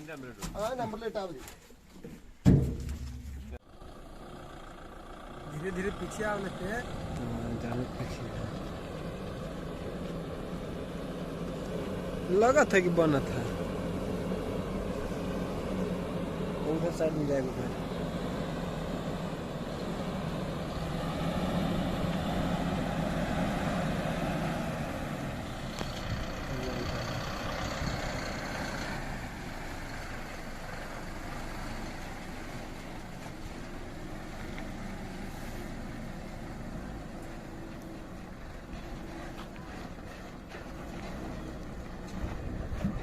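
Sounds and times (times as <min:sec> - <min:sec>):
truck diesel engine running: 0:02.8 - 0:43.0.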